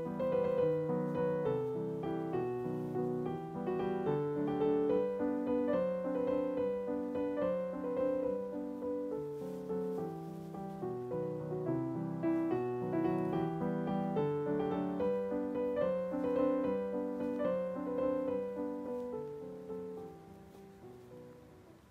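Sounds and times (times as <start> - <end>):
piano music: 0.0 - 21.9.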